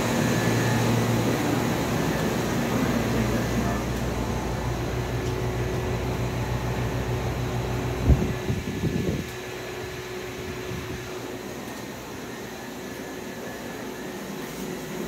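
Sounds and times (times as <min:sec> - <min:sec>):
faint steady whine: 0:00.0 - 0:15.0
train car equipment low hum: 0:00.0 - 0:15.0.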